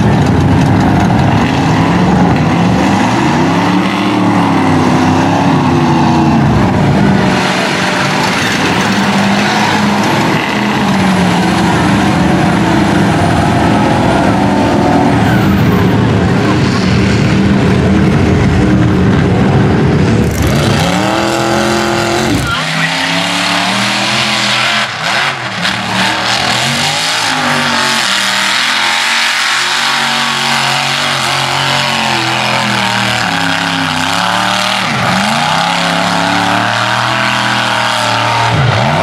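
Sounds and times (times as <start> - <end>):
pickup engine running low: 0.0 - 39.0
truck engine revving: 0.0 - 39.0.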